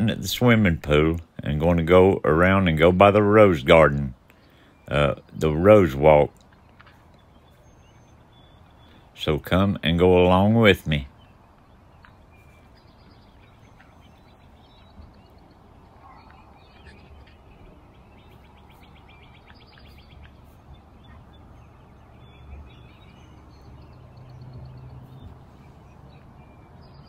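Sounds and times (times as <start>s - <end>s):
birds singing and chirping: 0.0s - 27.0s.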